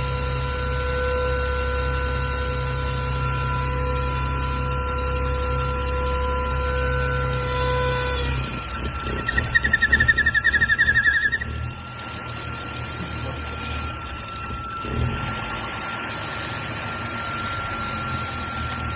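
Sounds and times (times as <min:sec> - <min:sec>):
high squeal from air intake: 0:00.0 - 0:18.9
thin high whine: 0:00.0 - 0:18.9
car engine running: 0:02.3 - 0:18.9.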